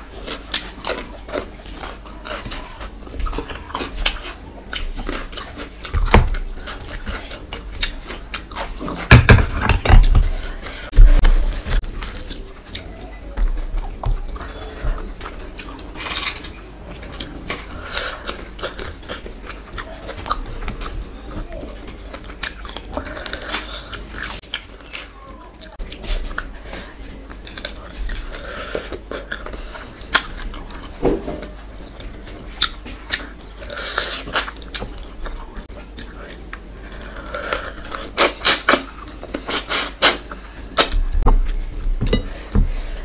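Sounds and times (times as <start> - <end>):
close chewing with mouth clicks: 0.0 - 9.2, 10.2 - 43.0.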